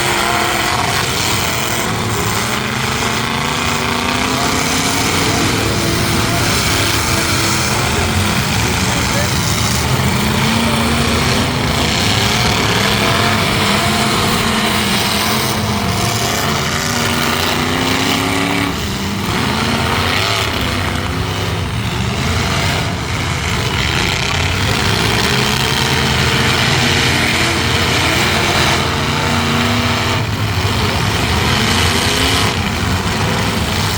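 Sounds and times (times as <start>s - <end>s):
truck engines revving: 0.0s - 33.9s.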